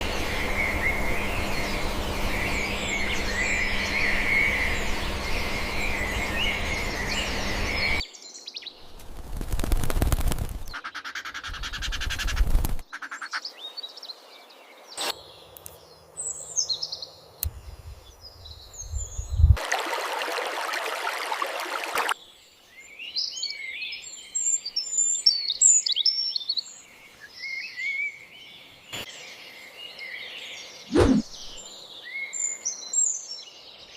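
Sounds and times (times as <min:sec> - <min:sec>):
birds chirping and singing: 0:00.0 - 0:09.0, 0:10.7 - 0:19.5, 0:22.4 - 0:33.9.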